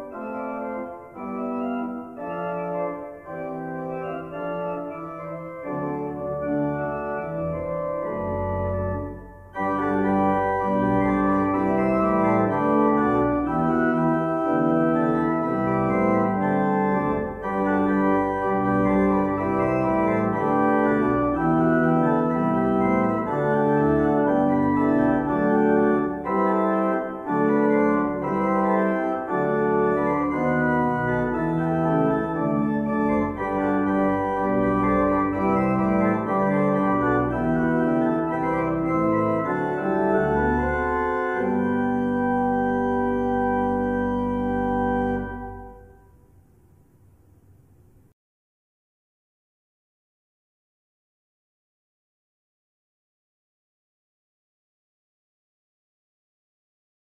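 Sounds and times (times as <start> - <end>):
pipe organ playing chords: 0.0 - 46.4.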